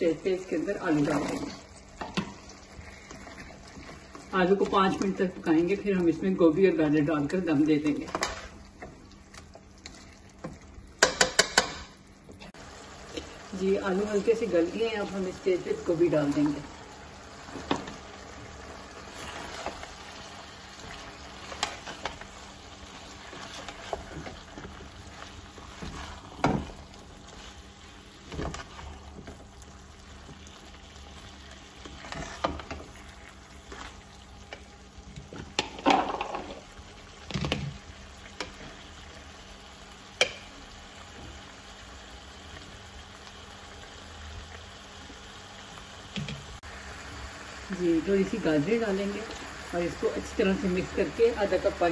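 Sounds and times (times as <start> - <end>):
vegetables sizzling in a pan: 0.0 - 51.9.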